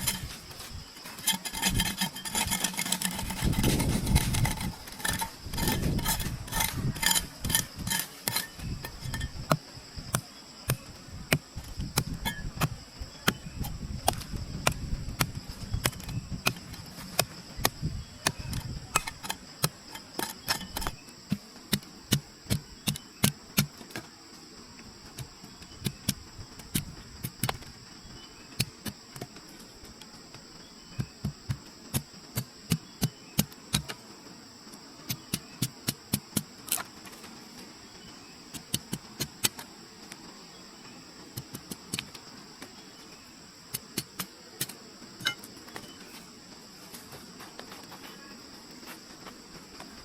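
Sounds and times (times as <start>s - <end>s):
high insect drone: 0.0s - 50.0s.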